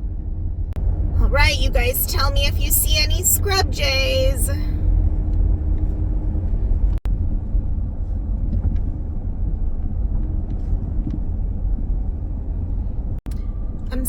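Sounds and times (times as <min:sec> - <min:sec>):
minivan road and engine rumble: 0:00.0 - 0:14.0.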